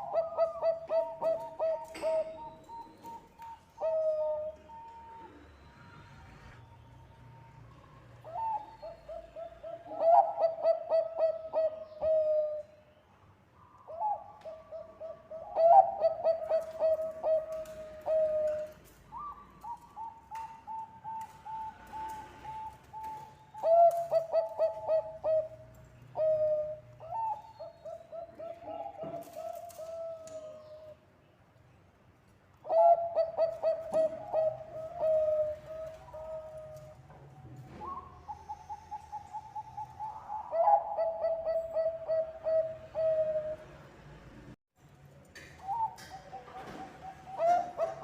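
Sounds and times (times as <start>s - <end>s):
dove cooing: 0.0s - 5.8s, 8.2s - 12.7s, 13.9s - 31.0s, 32.6s - 37.0s, 37.7s - 43.8s, 45.6s - 48.0s.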